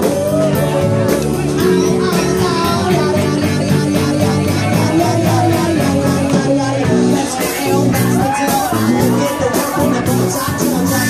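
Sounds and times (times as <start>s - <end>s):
drum beat: 0.0s - 11.0s
live band playing rock: 0.0s - 11.0s
person singing: 0.0s - 11.0s.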